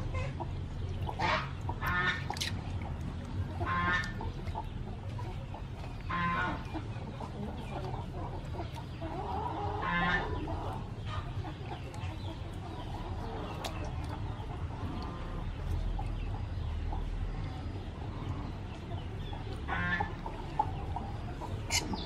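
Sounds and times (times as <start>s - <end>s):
chicken clucking: 0.0s - 22.0s.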